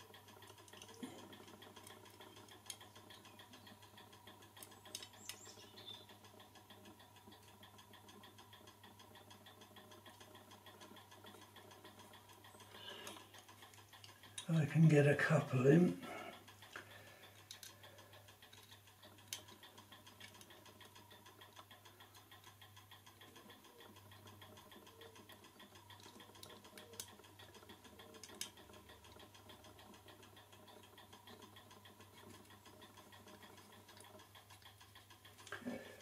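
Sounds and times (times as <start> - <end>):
small metallic clicks of screws: 0.0 - 5.4, 6.2 - 14.5, 16.3 - 35.7
clock ticking fast: 0.0 - 36.0.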